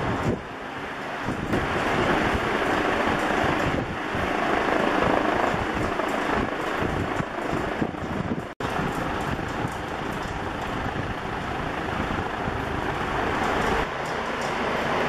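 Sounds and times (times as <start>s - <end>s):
ceiling fan air rushing: 0.0s - 15.0s.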